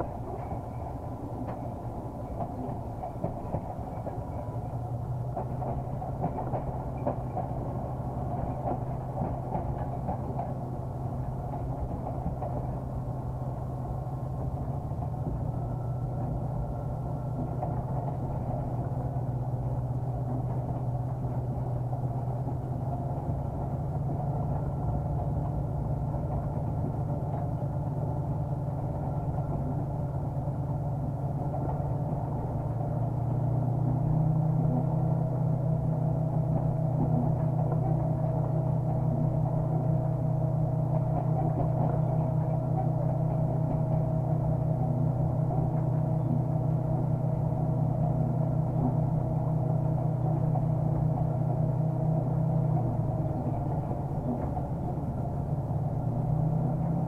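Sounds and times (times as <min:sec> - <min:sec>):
diesel engine running: 0:00.0 - 0:57.0
wheel and track rumbling: 0:00.0 - 0:57.0.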